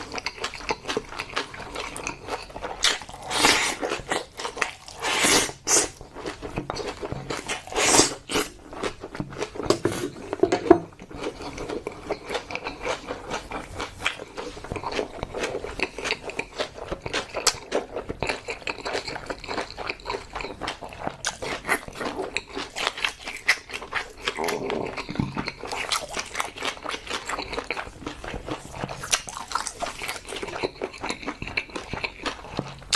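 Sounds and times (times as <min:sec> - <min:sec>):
person chewing food: 0:00.0 - 0:32.9.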